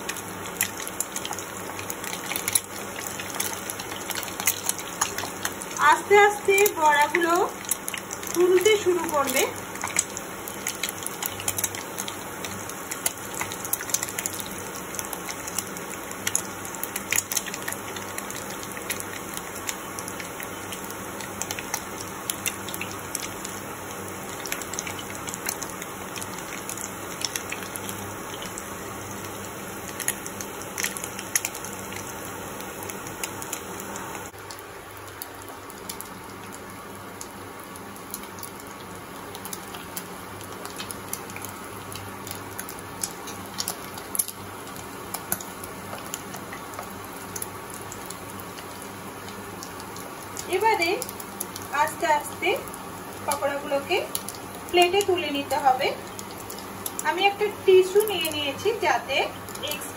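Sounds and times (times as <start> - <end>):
oil sizzling and popping: 0.0 - 59.9.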